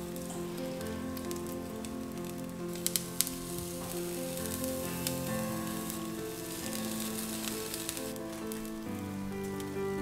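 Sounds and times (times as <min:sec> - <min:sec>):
background music with held notes: 0:00.0 - 0:10.0
omelette sizzling in a frying pan: 0:00.1 - 0:09.7.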